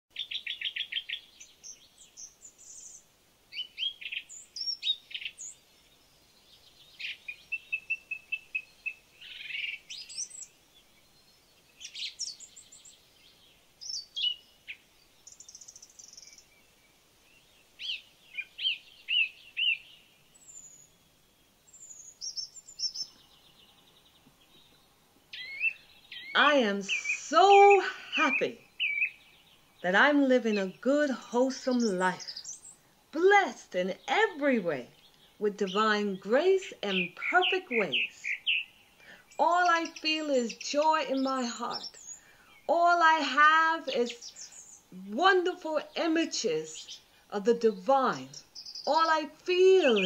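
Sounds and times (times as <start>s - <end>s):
songbirds singing and calling: 0.1s - 50.0s.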